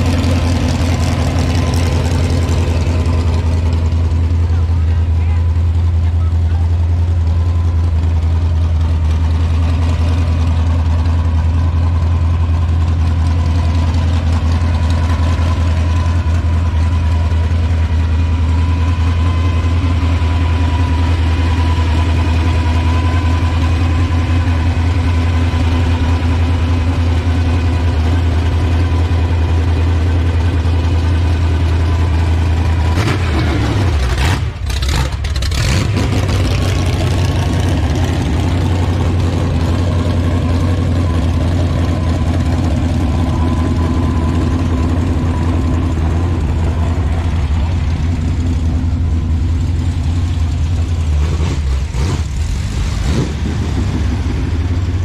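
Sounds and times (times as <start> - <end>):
hot rod engine idling: 0.0 - 55.0.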